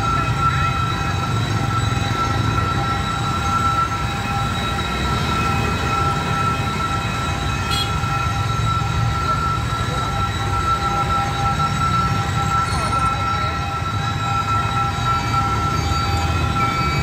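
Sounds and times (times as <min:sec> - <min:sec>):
high-pitched tones: 0:00.0 - 0:17.0
vehicles rumbling over crossing: 0:00.0 - 0:17.0.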